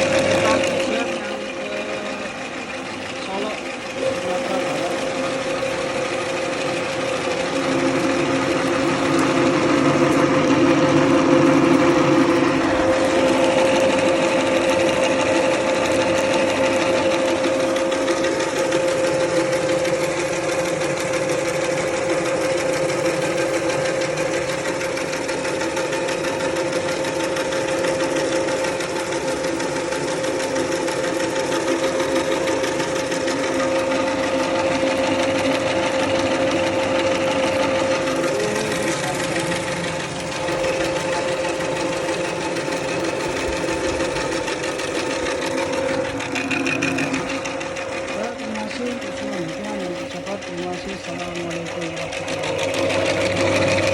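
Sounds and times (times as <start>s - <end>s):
machine whirring: 0.0s - 53.9s.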